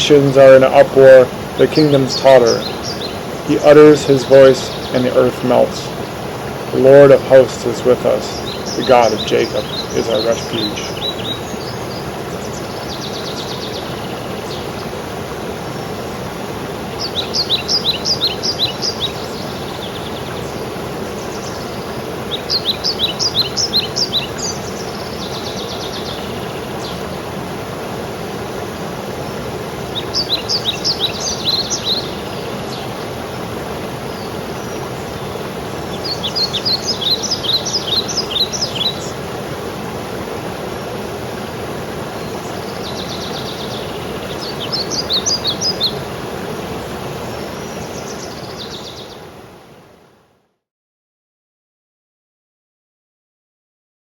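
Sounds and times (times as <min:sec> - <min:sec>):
songbird singing: 0:00.0 - 0:49.4
waterfall rushing: 0:00.0 - 0:50.1.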